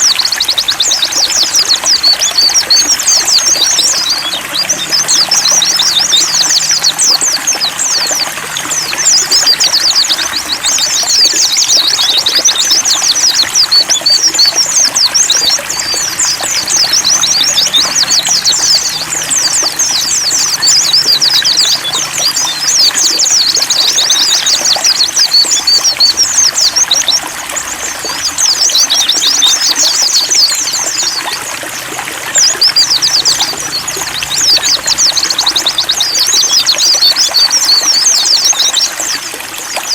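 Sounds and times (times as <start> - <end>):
birds twittering: 0.0 - 39.9
water trickling: 0.0 - 39.9.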